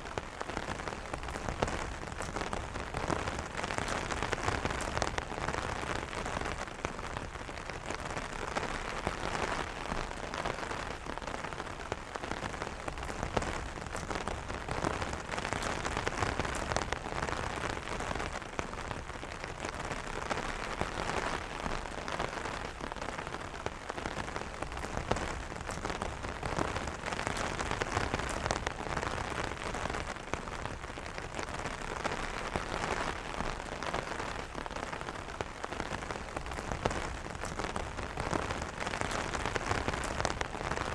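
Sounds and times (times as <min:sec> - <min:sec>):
rain pattering on umbrella: 0:00.0 - 0:40.9.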